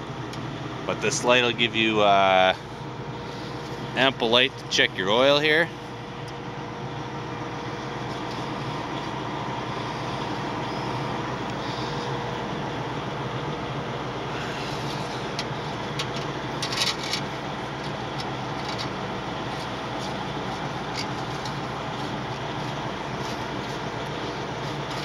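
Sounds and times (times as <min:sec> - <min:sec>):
machinery droning: 0:00.0 - 0:25.0.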